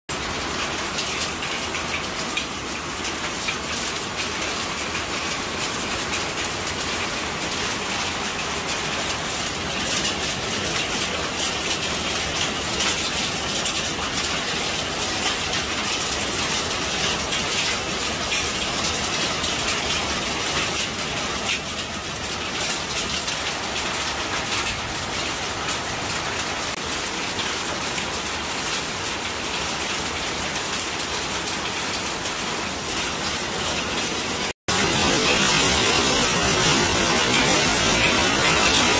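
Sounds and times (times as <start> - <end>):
hail and rain pelting pavement: 0.1 - 38.9.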